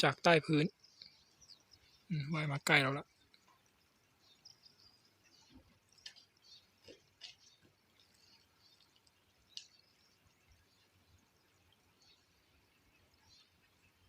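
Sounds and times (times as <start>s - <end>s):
faint high-pitched chirps: 0.0s - 14.0s.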